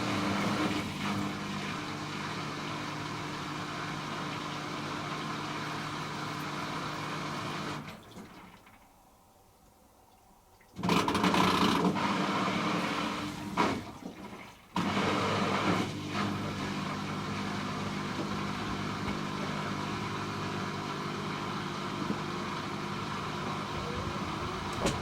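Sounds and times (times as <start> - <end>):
washing machine running: 0.0 - 8.8, 10.8 - 25.0.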